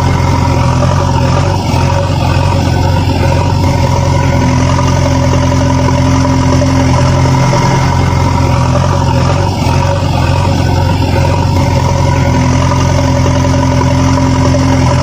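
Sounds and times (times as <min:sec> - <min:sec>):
heavy vehicle engine idling: 0:00.0 - 0:15.0.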